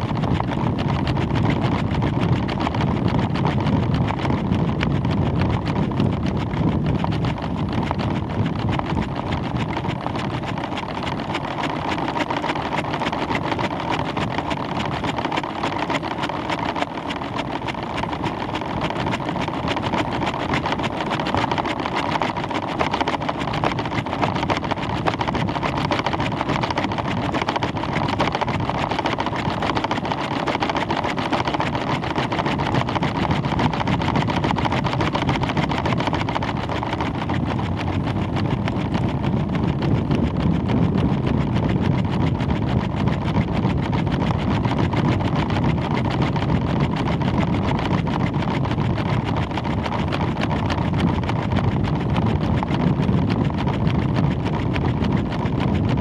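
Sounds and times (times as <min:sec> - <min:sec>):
air rushing over microphone: 0:00.0 - 0:56.0.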